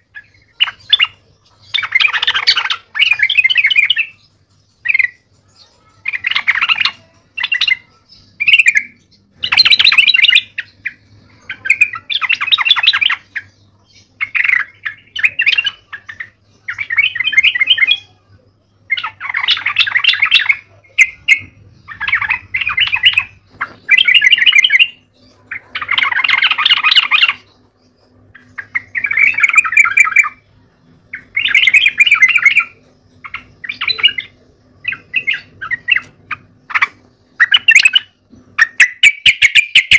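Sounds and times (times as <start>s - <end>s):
bird singing rapid chattering phrases: 0.0s - 39.9s.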